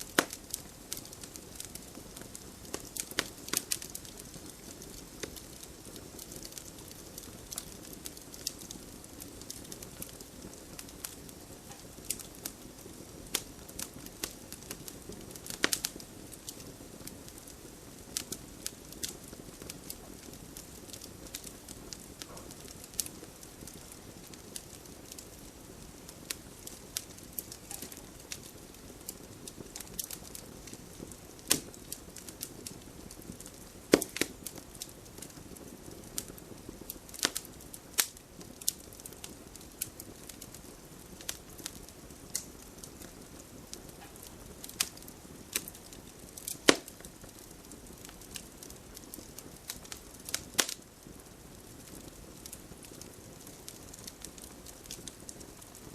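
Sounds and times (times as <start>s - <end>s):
fire flames rumbling: 0.0s - 55.9s
fire popping: 0.0s - 55.9s.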